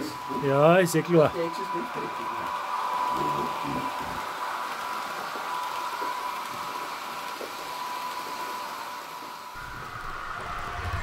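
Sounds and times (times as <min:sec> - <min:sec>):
model train whine: 0:00.0 - 0:11.0.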